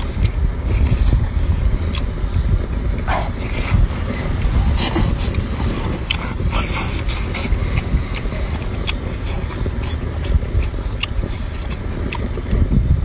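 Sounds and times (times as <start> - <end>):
low rumble: 0.0 - 13.0
man chewing wetly: 0.0 - 13.0.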